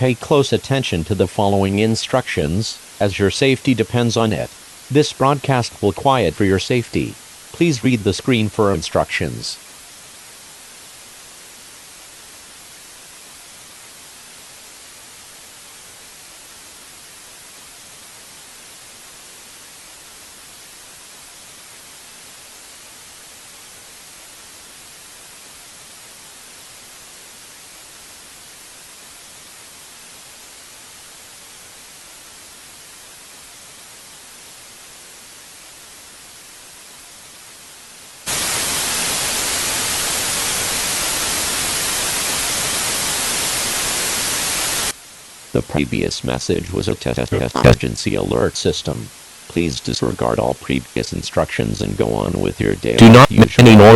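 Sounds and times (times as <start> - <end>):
static hiss: 0.0 - 53.9.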